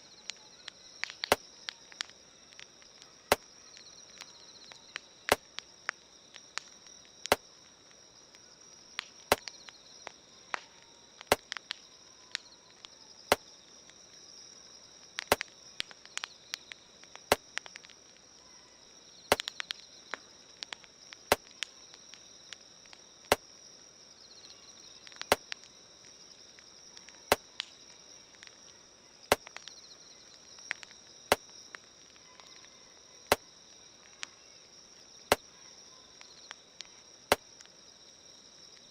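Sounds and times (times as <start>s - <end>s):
campfire crackling and popping: 0.0s - 38.9s
crickets chirring: 0.0s - 38.9s.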